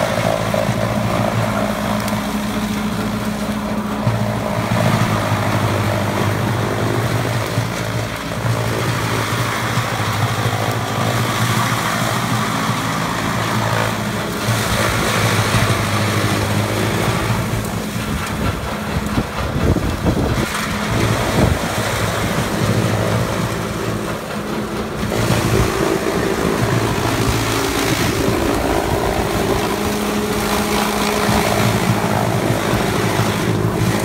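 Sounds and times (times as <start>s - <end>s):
chopping and blowing noise: 0.0s - 34.0s
machine hum: 0.0s - 34.0s.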